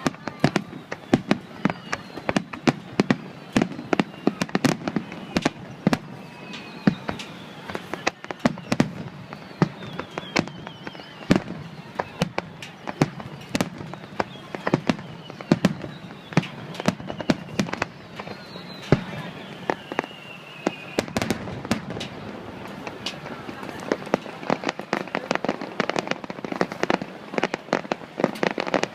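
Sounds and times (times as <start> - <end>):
fireworks bangs and crackling: 0.0 - 28.9
fireworks whistling: 0.0 - 28.9.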